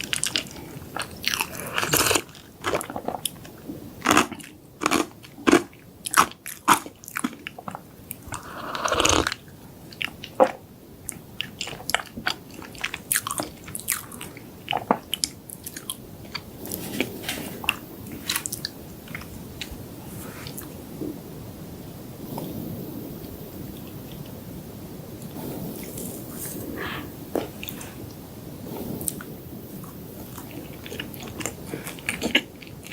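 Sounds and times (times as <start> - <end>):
soft chewing: 0.0 - 21.2, 25.2 - 32.9.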